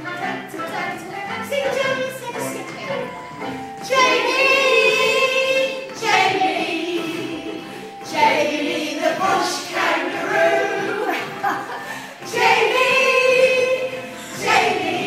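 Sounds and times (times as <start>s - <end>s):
women singing together: 0.0s - 3.2s, 3.8s - 15.0s.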